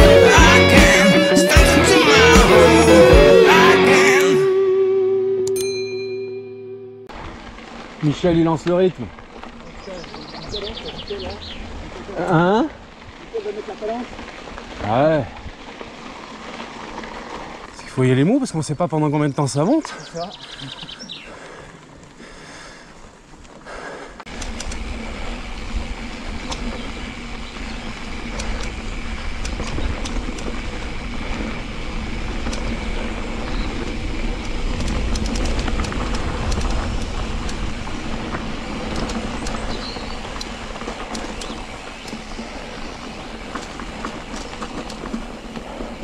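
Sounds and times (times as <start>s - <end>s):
bike clicks and rattles: 7.1s - 18.3s, 19.8s - 46.0s
wind and tyre rumble: 7.1s - 46.0s.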